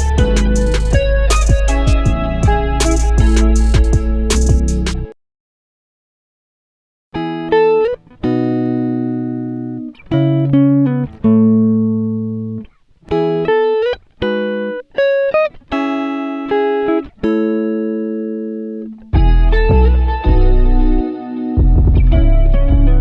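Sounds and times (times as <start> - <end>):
plucked guitar melody: 0.0 - 5.2, 7.2 - 23.0.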